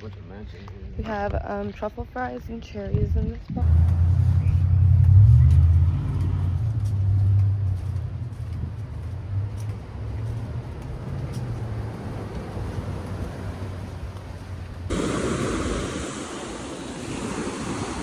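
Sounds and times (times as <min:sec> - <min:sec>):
car engine rumble: 0:03.6 - 0:18.0.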